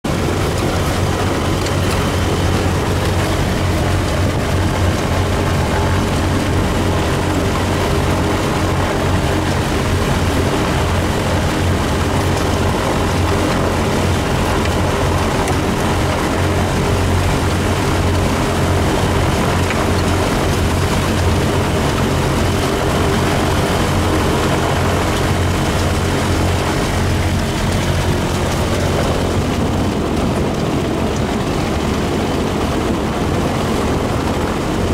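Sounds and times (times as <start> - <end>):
aircraft engine and propeller: 0.0 - 34.9.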